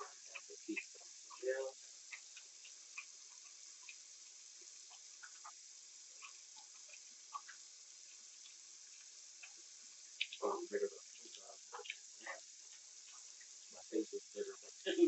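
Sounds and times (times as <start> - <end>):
bathroom tap running: 0.0 - 15.0.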